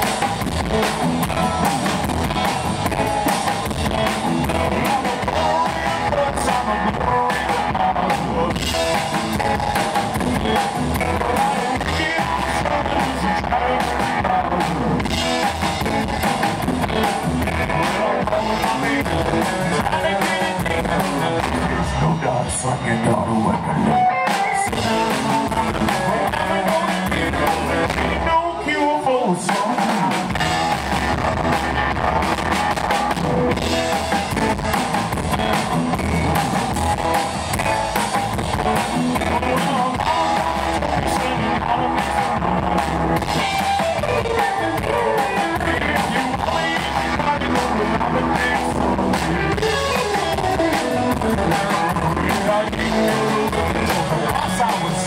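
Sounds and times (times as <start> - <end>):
drum kit: 0.0 - 22.0, 24.0 - 28.4, 29.3 - 55.0
electric guitar: 0.0 - 55.0
upright bass: 0.0 - 55.0.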